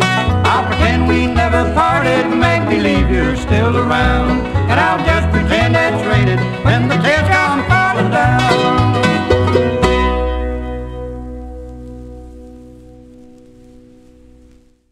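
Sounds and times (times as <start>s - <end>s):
bluegrass string band playing: 0.0s - 12.2s.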